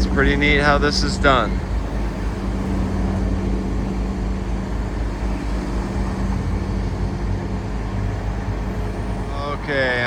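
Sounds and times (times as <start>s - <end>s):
city street traffic: 0.0s - 10.0s
heavy engine running steadily: 0.0s - 10.0s.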